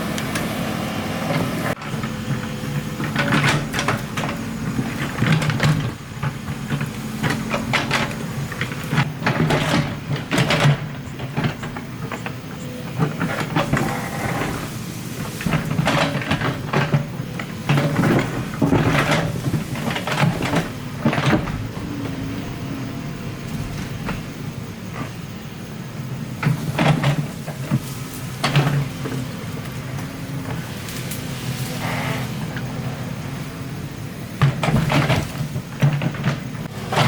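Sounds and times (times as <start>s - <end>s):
diesel engine running: 0.0s - 37.0s
excavator clanks and scrapes: 0.0s - 37.0s.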